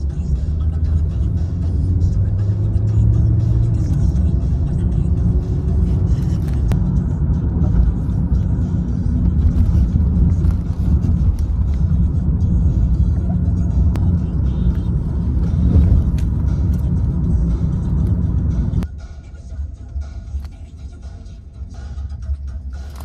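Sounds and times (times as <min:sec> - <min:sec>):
car cabin road rumble: 0:00.0 - 0:23.0
music playing: 0:00.0 - 0:23.0.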